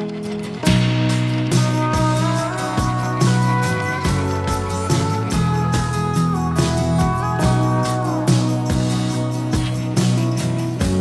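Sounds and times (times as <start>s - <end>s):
rock music with guitar and drums: 0.0s - 11.0s.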